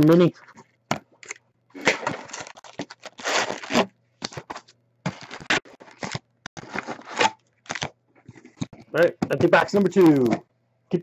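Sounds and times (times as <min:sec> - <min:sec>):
rustling and crinkling packs: 0:01.2 - 0:10.3.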